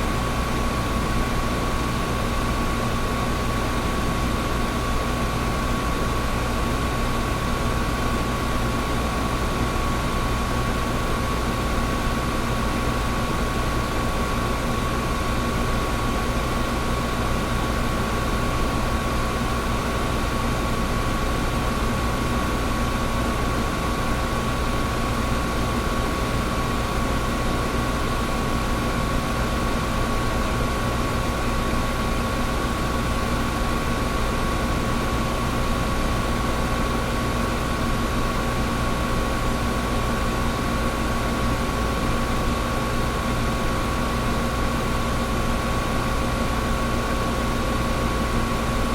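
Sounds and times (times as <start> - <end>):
air conditioner running: 0.0 - 48.9.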